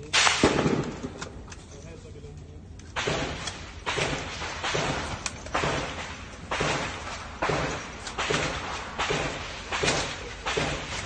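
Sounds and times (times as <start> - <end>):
rifle shots: 0.0 - 1.4, 2.9 - 11.0.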